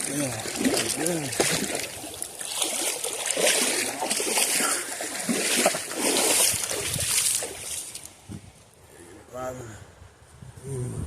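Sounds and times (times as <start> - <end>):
river water splashing and sloshing: 0.0 - 9.3.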